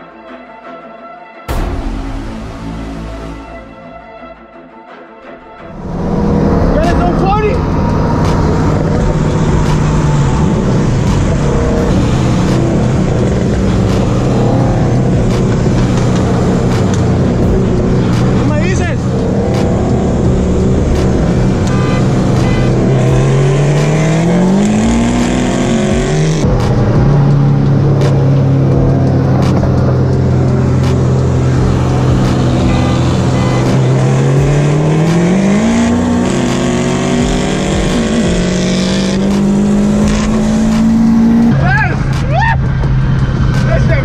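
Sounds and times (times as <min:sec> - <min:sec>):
road and wind noise: 0:05.4 - 0:44.0
car engine accelerating: 0:05.6 - 0:44.0.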